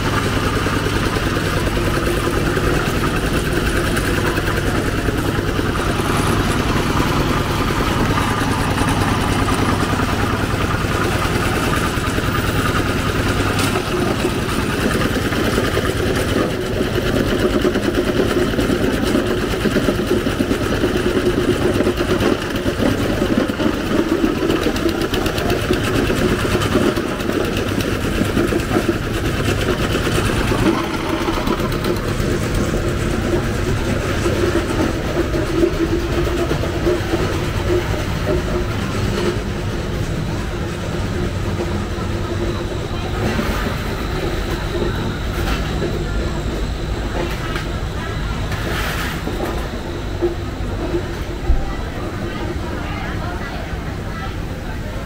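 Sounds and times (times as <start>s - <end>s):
street traffic engines: 0.0s - 55.0s.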